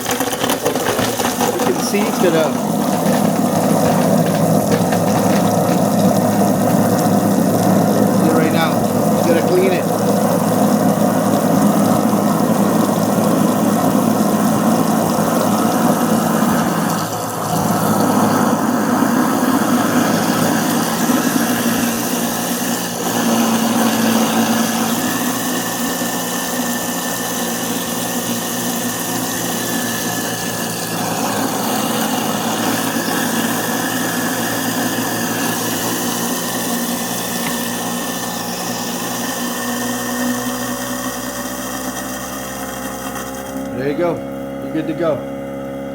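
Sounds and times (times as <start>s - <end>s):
garbage disposal running with water: 0.0s - 45.9s.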